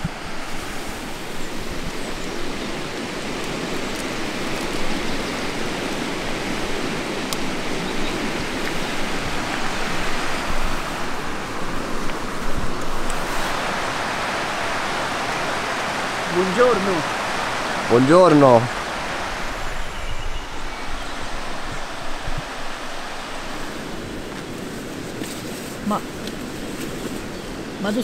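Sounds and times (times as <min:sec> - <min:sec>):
mountain stream rushing: 0:00.0 - 0:28.0.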